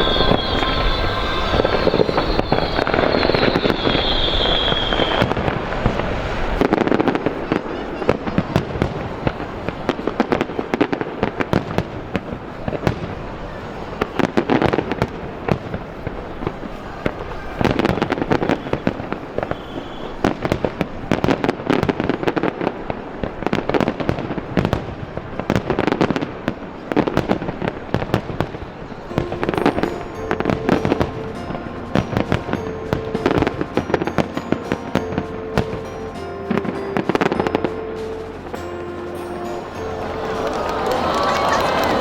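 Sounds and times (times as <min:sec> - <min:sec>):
fireworks bursts: 0:00.0 - 0:42.0
fireworks crackling: 0:00.0 - 0:42.0.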